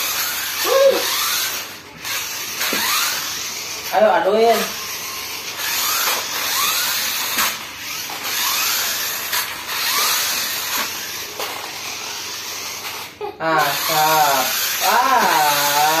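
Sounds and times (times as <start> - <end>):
short rising motor whine: 0.0 - 16.0
toy truck motors whirring: 0.0 - 16.0.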